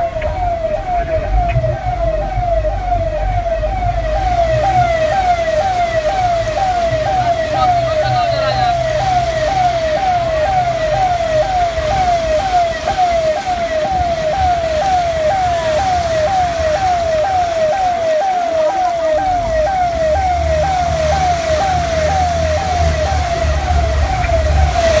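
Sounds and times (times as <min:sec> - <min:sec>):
low traffic rumble: 0:00.0 - 0:25.0
siren yelping: 0:00.0 - 0:25.0.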